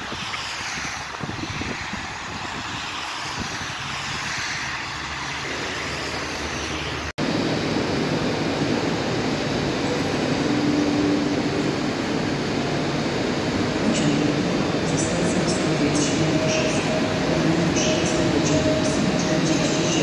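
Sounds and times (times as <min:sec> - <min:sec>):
drone of standing trains: 0:00.0 - 0:20.0.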